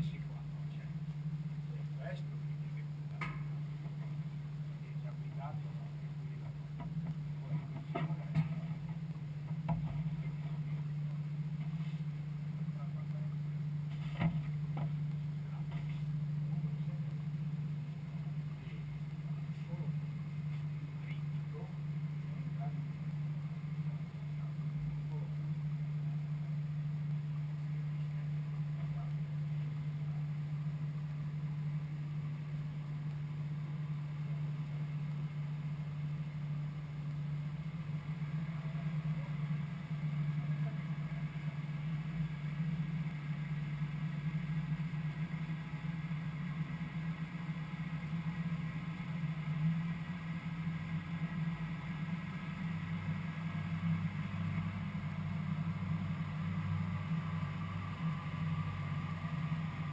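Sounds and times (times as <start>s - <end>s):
deeper engine tone: 0.0s - 59.9s
propeller aircraft engine idling: 0.0s - 59.9s.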